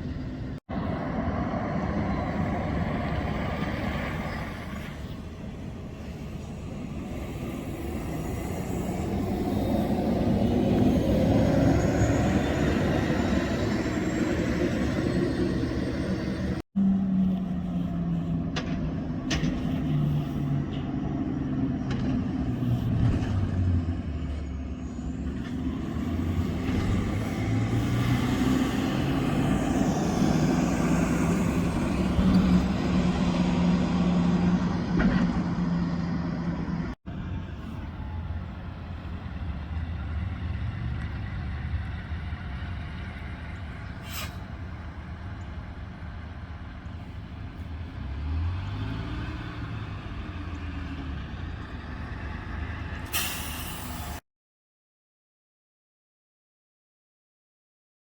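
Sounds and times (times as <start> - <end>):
buses driving by: 0.0 - 54.2.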